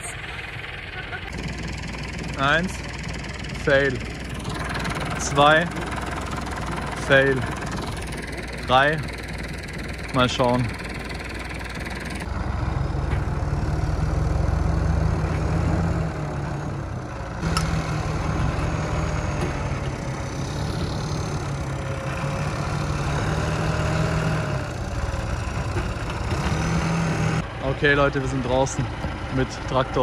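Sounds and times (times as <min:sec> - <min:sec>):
tractor diesel engines under load: 0:00.0 - 0:30.0.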